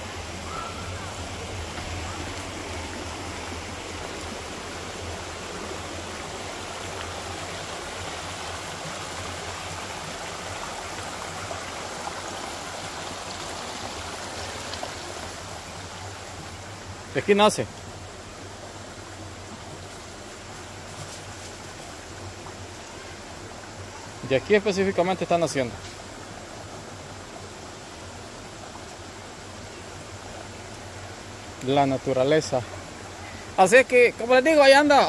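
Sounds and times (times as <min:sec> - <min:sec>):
stream trickling over rocks: 0:00.0 - 0:35.0.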